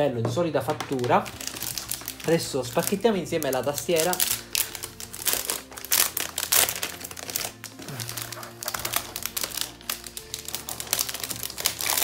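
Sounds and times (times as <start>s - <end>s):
background music: 0.0s - 12.0s
plastic wrapping crinkling: 0.6s - 12.0s.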